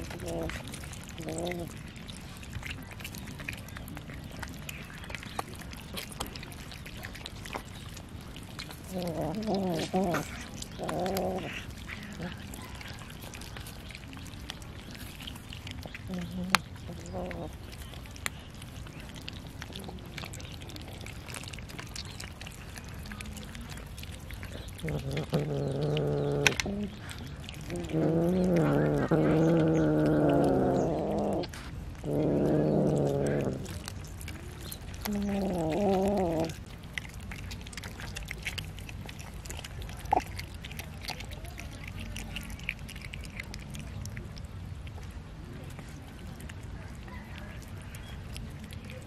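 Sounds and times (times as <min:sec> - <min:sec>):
cats chewing and crunching: 0:00.0 - 0:49.0.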